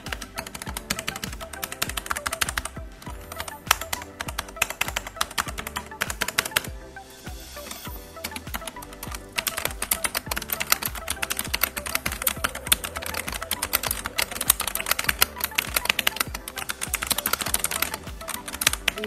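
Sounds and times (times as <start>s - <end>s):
mechanical keyboard typing: 0.0s - 6.7s, 8.2s - 19.0s.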